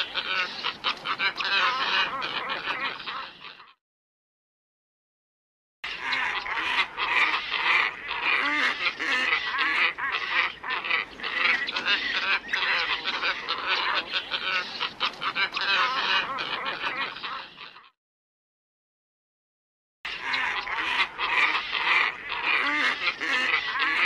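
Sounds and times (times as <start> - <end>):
flock of ibises calling: 0.0 - 3.8, 5.9 - 17.9, 20.1 - 24.0.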